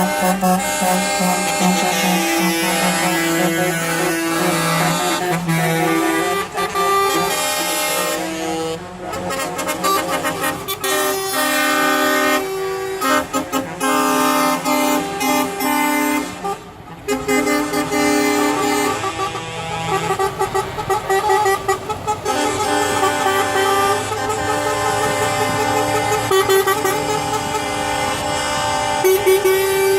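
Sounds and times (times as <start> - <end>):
truck air horns blasting: 0.0 - 29.9
truck engines running: 0.0 - 29.9.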